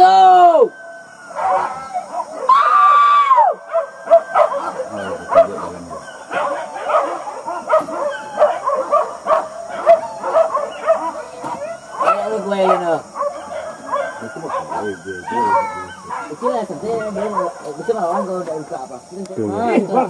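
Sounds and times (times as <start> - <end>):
dog howling: 0.0 - 18.4
dogs baying and yelping: 0.4 - 18.9.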